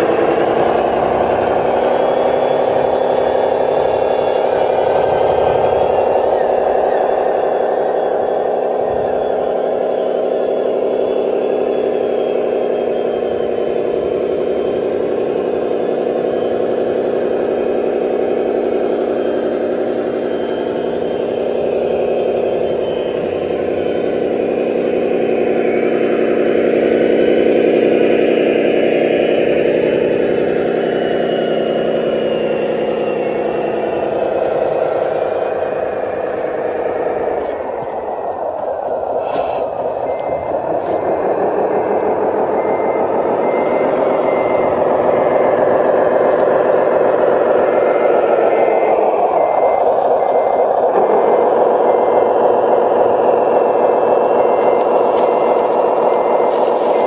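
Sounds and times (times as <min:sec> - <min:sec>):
model truck engine drone: 0:00.0 - 0:57.0.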